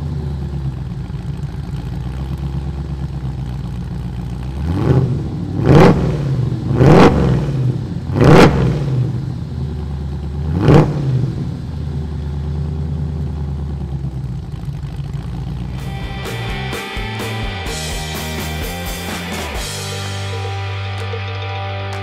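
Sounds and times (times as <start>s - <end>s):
engine revving and idling: 0.0s - 22.0s.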